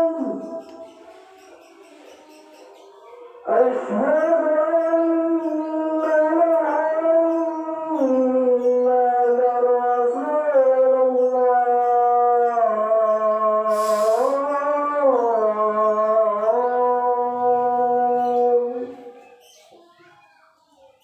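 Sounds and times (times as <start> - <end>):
voice holding long sliding notes: 0.0 - 19.2.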